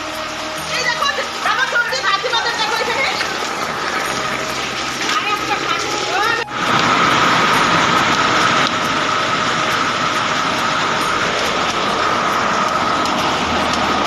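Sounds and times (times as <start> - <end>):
hail and rain pelting down: 0.0 - 14.0
thin steady whine: 0.0 - 14.0.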